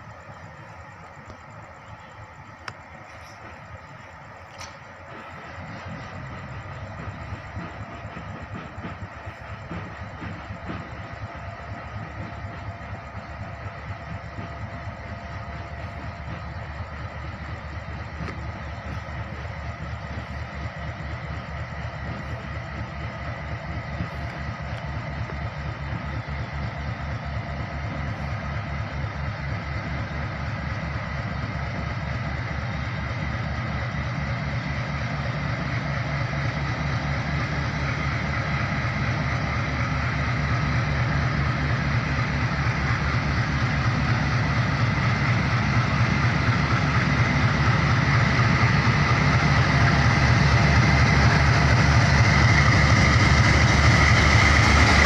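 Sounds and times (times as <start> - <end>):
train rumbling and whining: 0.0 - 55.0.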